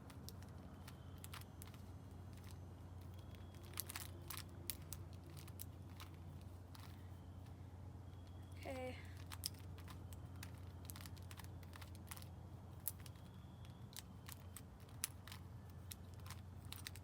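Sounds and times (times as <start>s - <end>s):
plastic puzzle pieces clicking: 0.0s - 7.0s, 9.1s - 17.0s.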